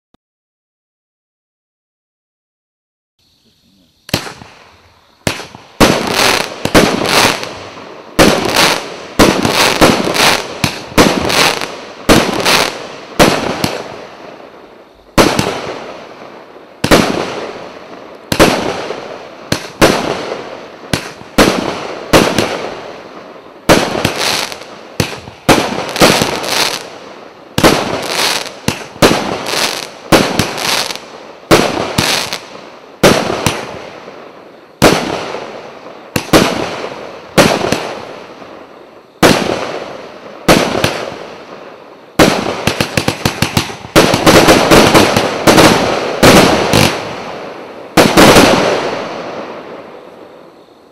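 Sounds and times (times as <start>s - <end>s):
firework bangs with crackling: 4.0s - 50.9s.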